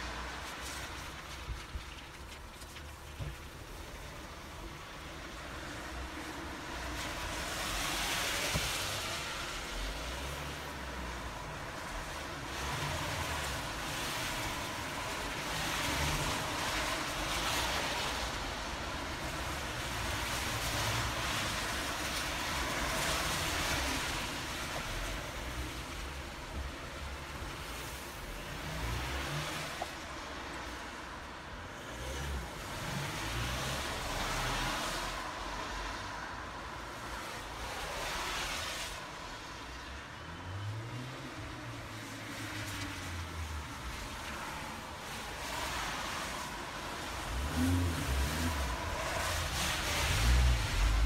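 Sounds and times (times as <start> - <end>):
cars passing on wet road: 0.0 - 51.0.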